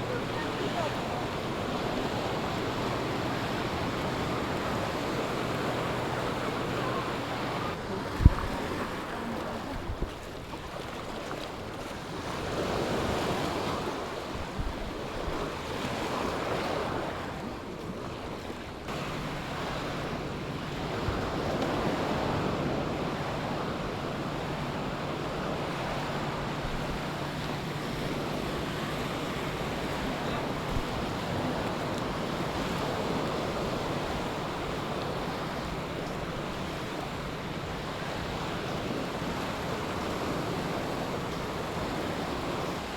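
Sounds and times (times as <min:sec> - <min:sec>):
sea waves washing onto beach: 0:00.0 - 0:42.9
wind on microphone: 0:00.0 - 0:42.9.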